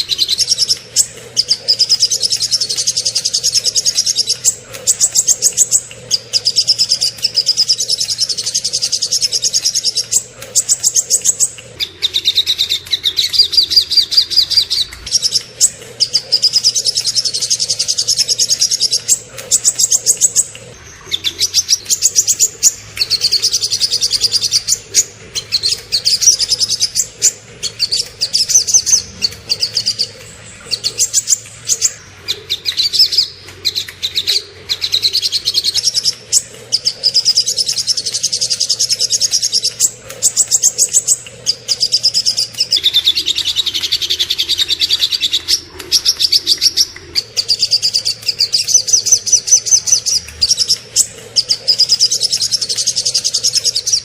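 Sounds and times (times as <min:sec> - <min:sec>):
songbirds singing rapid trills: 0:00.0 - 0:54.0.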